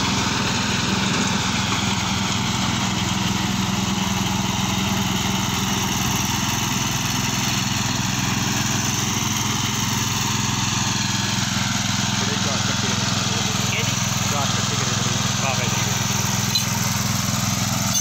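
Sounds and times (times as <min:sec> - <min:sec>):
tractor engine running under load: 0:00.0 - 0:18.0.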